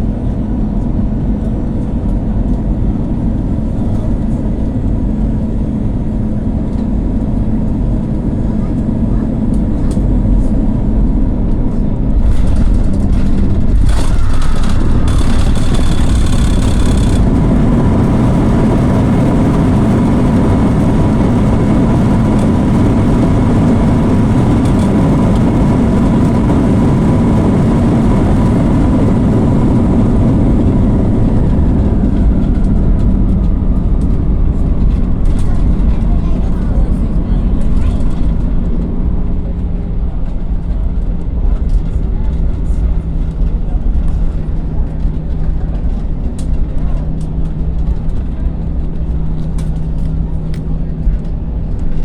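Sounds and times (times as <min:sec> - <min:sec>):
airplane cabin rumble: 0:00.0 - 0:52.0.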